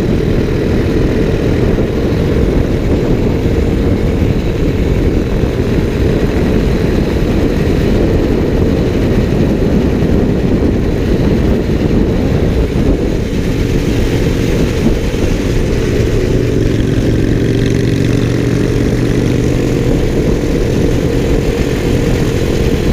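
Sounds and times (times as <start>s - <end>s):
motorcycle engine: 0.0s - 22.9s
wind rumble on microphone: 0.0s - 22.9s.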